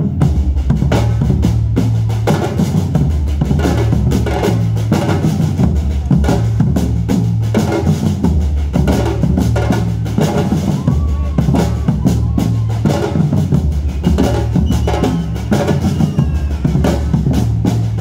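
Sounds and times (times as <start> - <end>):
deep bass drums pounding: 0.0 - 18.0
rapid snare drum strokes: 0.0 - 18.0.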